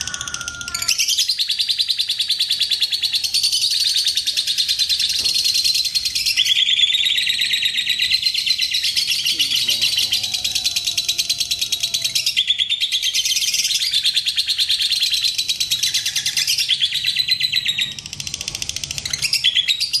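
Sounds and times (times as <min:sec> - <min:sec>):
lovebird high-pitched chattering: 0:00.0 - 0:20.0.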